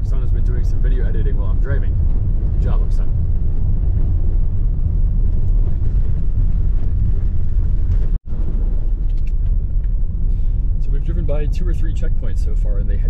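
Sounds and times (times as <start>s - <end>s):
road noise: 0.0s - 13.0s
van engine rumble: 0.0s - 13.0s.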